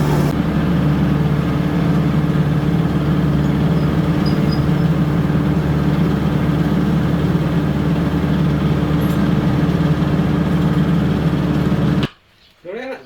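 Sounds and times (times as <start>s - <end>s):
rice milling machine drone: 0.0s - 12.1s.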